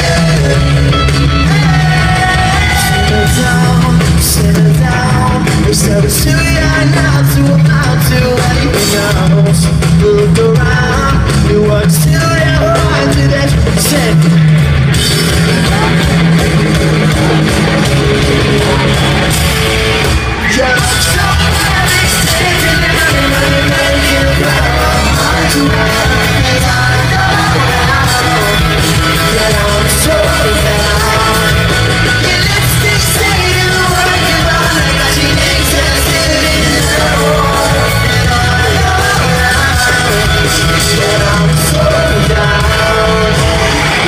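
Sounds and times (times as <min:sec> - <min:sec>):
person singing lead vocals: 0:00.0 - 0:44.0
rock band playing: 0:00.0 - 0:44.0.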